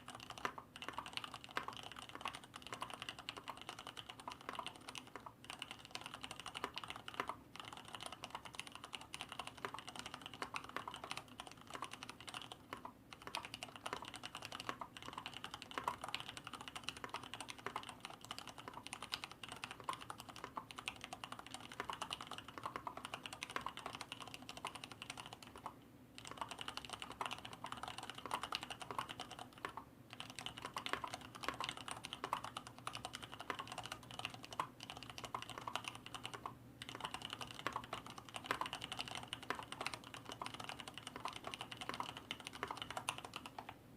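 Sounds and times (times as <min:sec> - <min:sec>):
typing on mechanical keyboard: 0:00.0 - 0:43.8.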